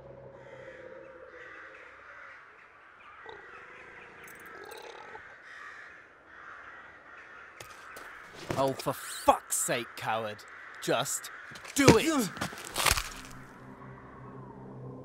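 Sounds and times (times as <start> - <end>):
crows cawing: 0.4 - 4.0, 5.0 - 13.4.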